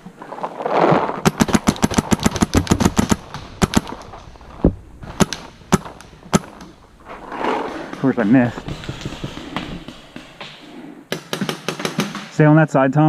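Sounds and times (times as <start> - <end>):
paintball markers firing: 1.2 - 12.4.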